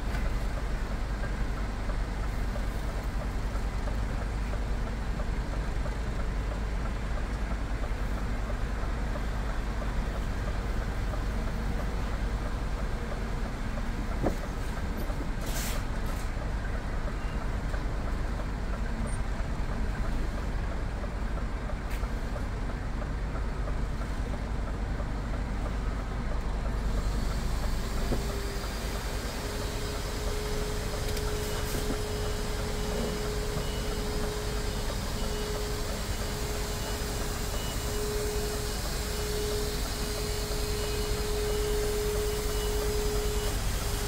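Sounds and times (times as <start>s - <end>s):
truck diesel engine at low revs: 0.0s - 44.0s.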